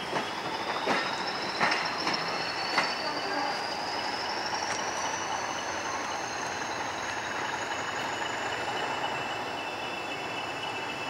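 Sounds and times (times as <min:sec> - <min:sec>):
faint high whine: 0:00.0 - 0:11.0
train coaches rolling on rails: 0:00.0 - 0:11.0.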